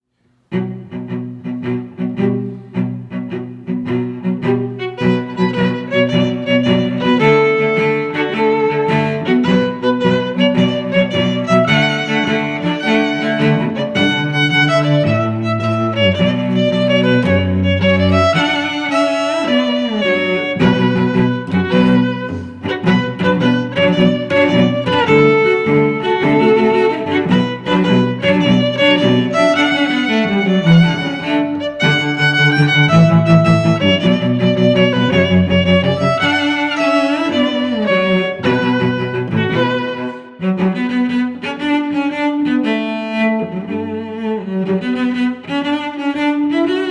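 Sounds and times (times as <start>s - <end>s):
violin melody: 0.0s - 46.9s
cello: 0.3s - 46.9s.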